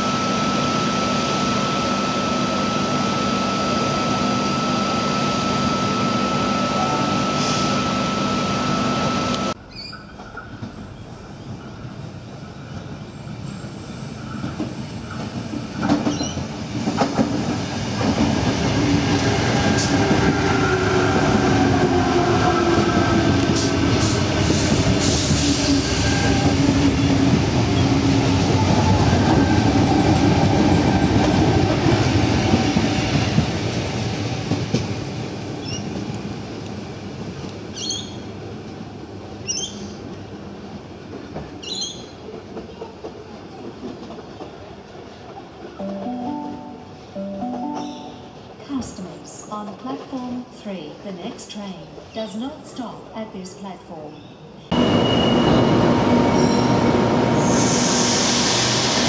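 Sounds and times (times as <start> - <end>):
train wheel-on-rail noise: 0.0 - 53.2, 54.7 - 59.0.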